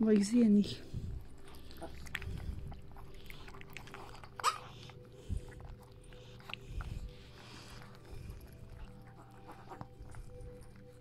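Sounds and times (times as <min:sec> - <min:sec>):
dog licking puppy: 0:00.0 - 0:11.0.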